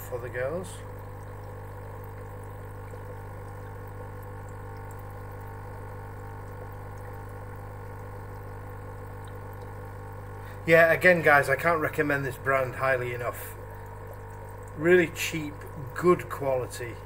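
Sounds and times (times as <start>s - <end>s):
aquarium pump humming: 0.0s - 17.0s
water trickling and bubbling: 0.0s - 17.0s.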